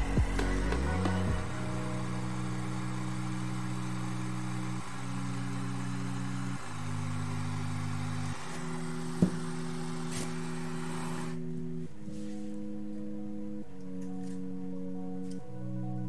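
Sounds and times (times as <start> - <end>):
sustained low music notes: 0.0 - 16.0.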